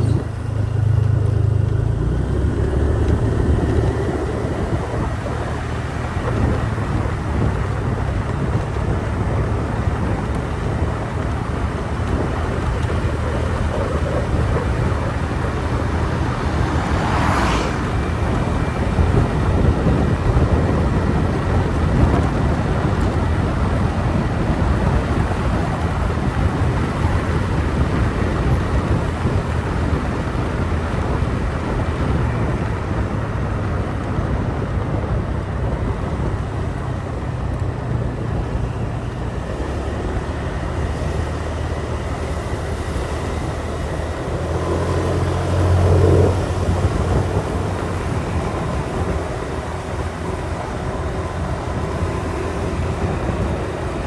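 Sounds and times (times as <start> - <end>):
motorbike engine running: 0.0 - 54.0
road and traffic noise: 0.0 - 54.0.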